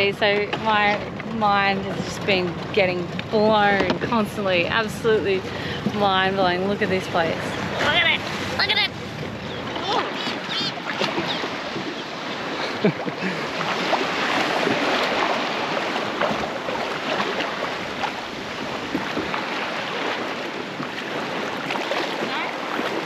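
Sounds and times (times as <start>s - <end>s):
sea water washing: 0.0s - 23.0s.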